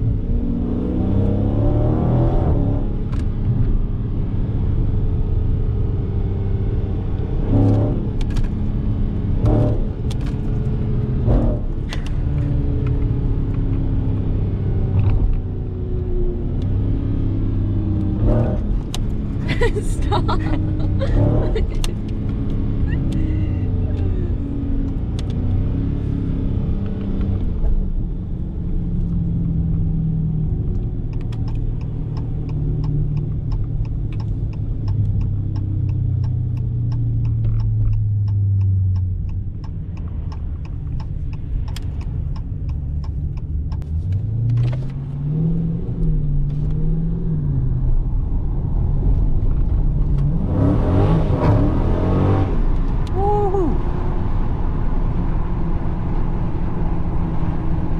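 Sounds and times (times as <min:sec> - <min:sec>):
car engine from inside: 0:00.0 - 0:57.9.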